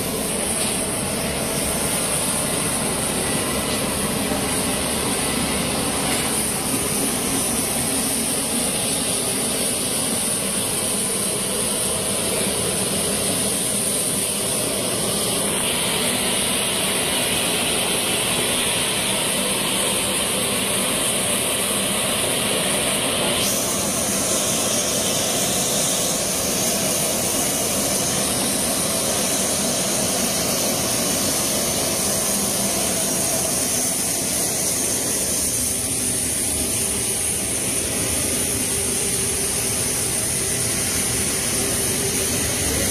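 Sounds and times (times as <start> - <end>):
jet turbine rushing and whining: 0.0 - 42.9.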